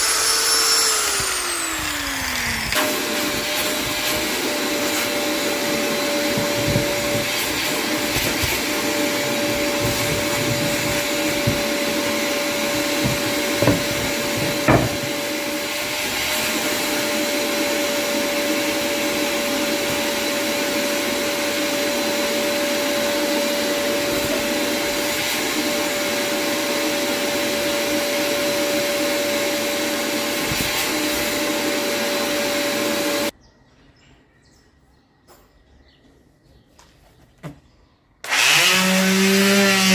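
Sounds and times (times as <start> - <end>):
power tool motor whining: 0.0 - 33.3, 38.2 - 39.9.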